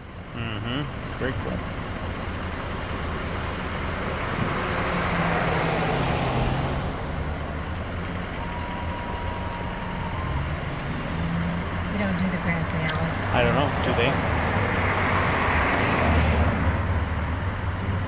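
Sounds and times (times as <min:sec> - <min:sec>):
vehicle engines humming: 0:00.0 - 0:18.0.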